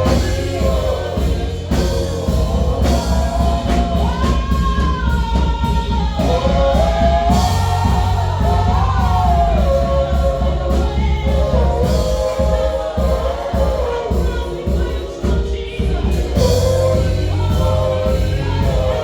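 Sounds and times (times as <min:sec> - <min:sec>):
band bass and drums: 0:00.0 - 0:19.0
choir singing gospel: 0:00.0 - 0:19.0.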